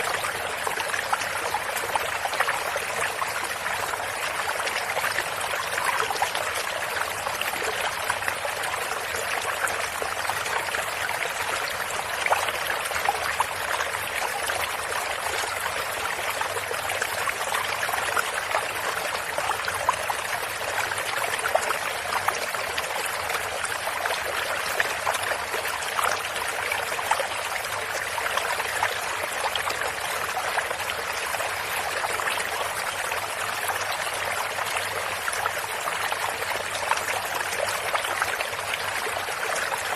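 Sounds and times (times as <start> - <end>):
stream water running over stones: 0.0 - 39.9.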